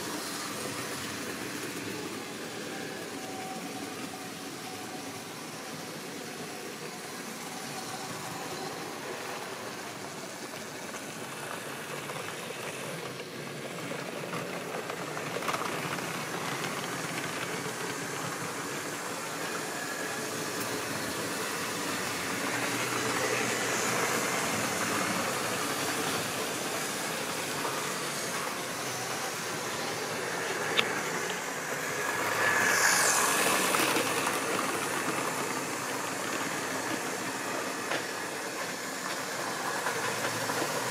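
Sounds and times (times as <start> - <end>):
model train motor whirring: 0.0 - 40.9.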